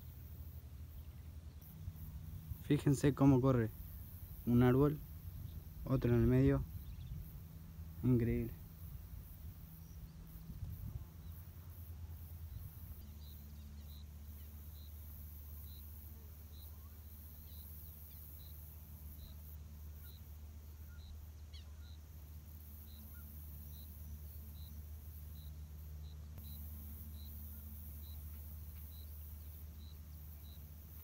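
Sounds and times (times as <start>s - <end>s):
faint bird chirps: 0.0s - 9.0s, 9.7s - 31.0s
steady low hum: 0.0s - 31.0s.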